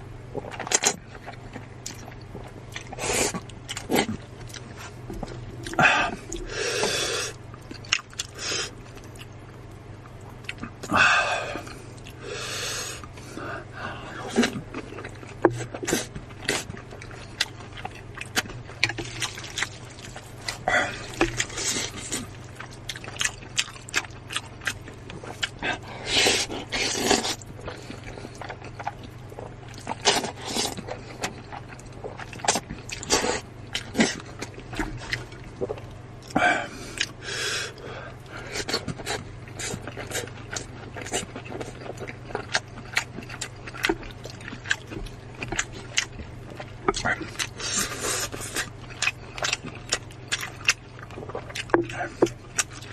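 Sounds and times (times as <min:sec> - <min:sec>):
wet chewing sounds: 0:00.2 - 0:52.9.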